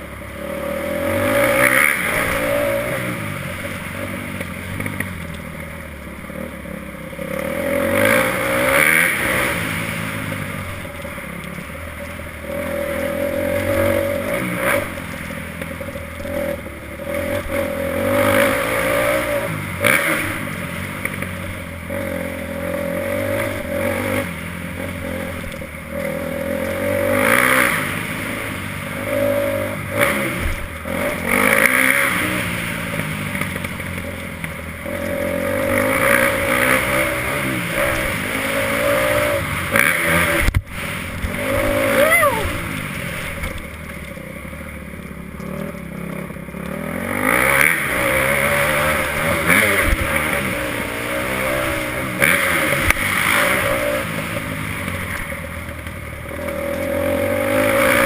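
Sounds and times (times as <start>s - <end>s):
motocross bike engine revving: 0.0s - 5.3s, 6.0s - 11.3s, 12.4s - 44.2s, 45.4s - 58.0s.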